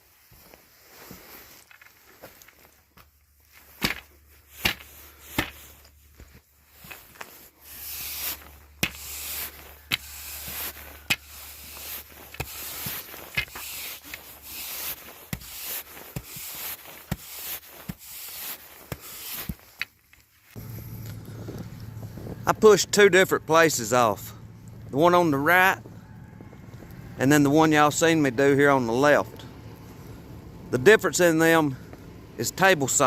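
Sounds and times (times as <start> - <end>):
snow shovel scraping: 3.6 - 25.8, 26.9 - 33.0.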